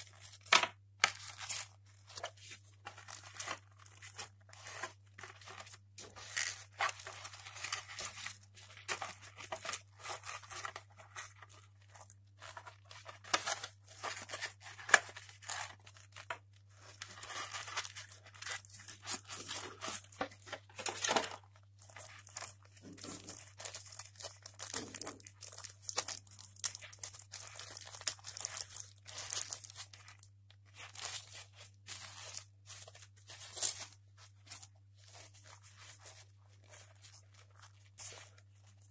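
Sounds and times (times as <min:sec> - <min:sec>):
plastic packaging rustling and crinkling: 0:00.0 - 0:38.9.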